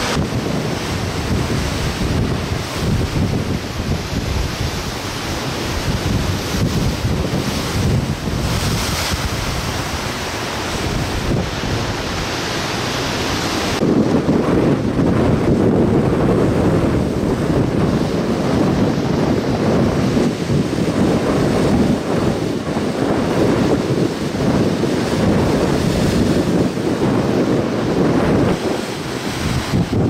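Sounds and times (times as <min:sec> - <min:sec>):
gusty wind buffeting microphone: 0:00.0 - 0:30.0
rough waves rushing: 0:00.0 - 0:30.0.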